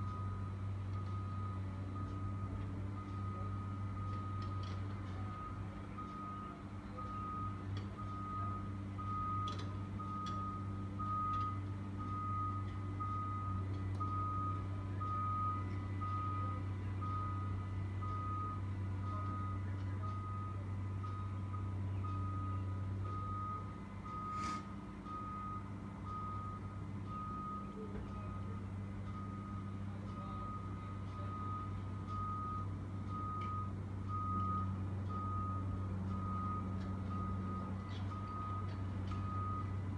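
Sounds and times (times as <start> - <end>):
backup alarm beeping: 0.0 - 39.8
diesel excavator engine hum: 0.0 - 39.9.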